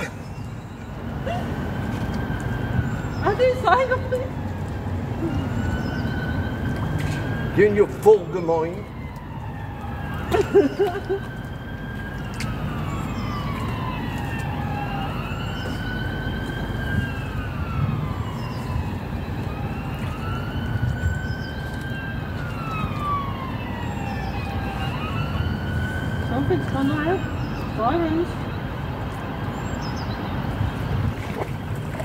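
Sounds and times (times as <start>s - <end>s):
emergency siren wailing: 0.0s - 31.1s.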